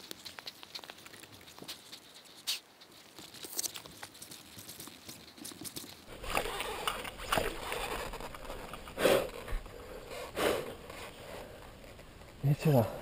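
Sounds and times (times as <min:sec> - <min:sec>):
crunching and scraping in dirt: 0:00.0 - 0:13.0.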